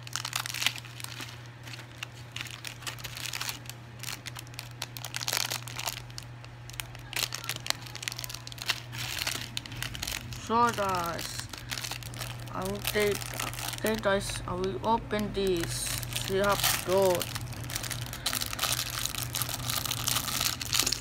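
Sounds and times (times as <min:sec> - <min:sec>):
plastic bags crinkling: 0:00.0 - 0:21.0
steady low hum: 0:00.0 - 0:21.0.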